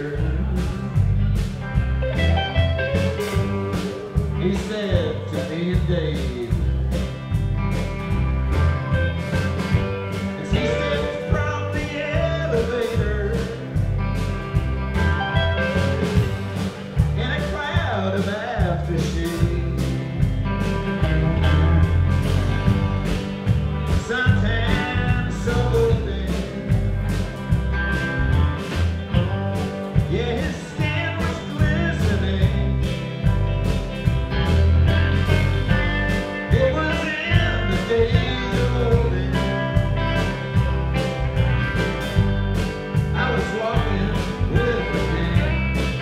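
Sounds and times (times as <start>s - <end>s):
bass guitar: 0.0s - 46.0s
electric guitars: 0.0s - 46.0s
steady drum beat: 0.0s - 46.0s.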